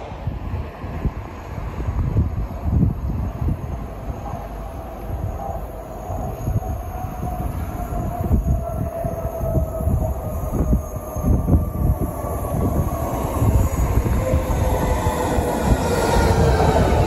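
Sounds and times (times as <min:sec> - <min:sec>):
faint train whine: 0:00.0 - 0:17.0
train rumble and rail noise: 0:00.0 - 0:17.0.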